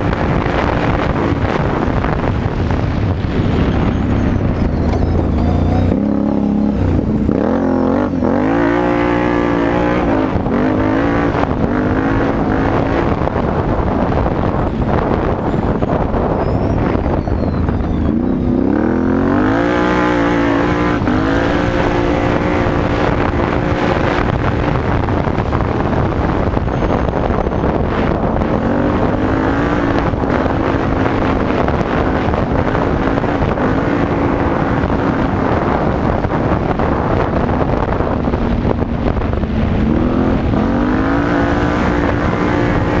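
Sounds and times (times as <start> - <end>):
quad engine accelerating: 0.0 - 43.0.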